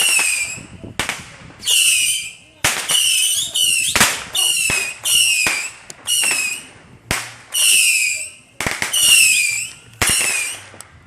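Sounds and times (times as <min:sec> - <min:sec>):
firework whistles: 0:00.0 - 0:00.8, 0:01.6 - 0:06.8, 0:07.5 - 0:10.8
firework bangs: 0:00.0 - 0:11.0.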